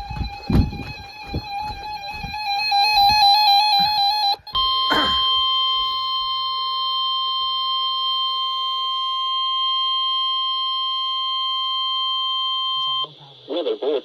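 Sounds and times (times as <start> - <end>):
steady electronic alarm tone: 0.0 - 13.2.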